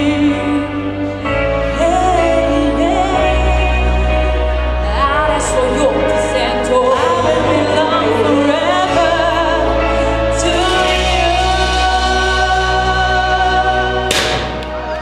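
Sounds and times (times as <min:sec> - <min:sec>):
sustained musical accompaniment: 0:00.0 - 0:15.0
voices singing with vibrato: 0:01.8 - 0:15.0.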